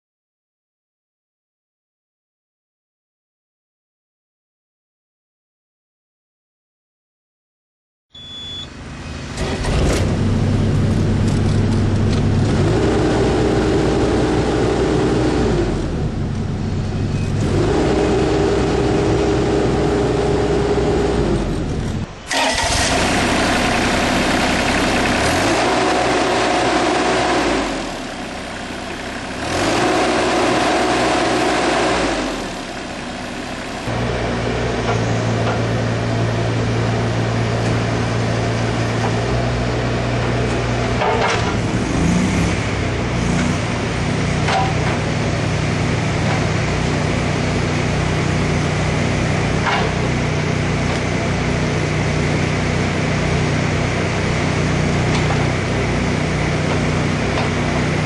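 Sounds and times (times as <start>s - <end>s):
diesel engine running: 8.4s - 58.0s.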